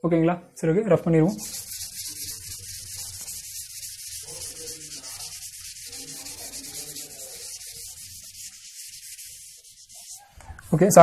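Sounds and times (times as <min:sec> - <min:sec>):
duster rubbing chalk off blackboard: 0:01.2 - 0:11.0.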